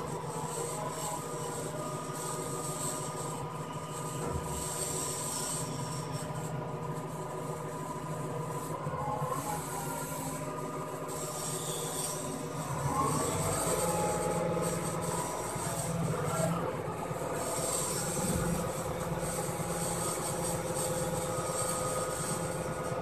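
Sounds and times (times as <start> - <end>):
crane engine droning: 0.0 - 23.0
high steady whine: 0.0 - 23.0.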